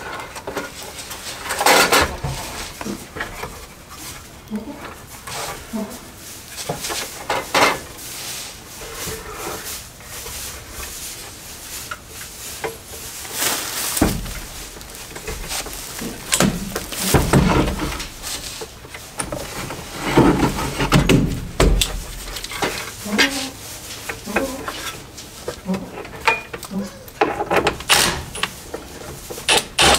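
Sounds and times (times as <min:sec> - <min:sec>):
knocks and scrapes: 0:00.0 - 0:26.6.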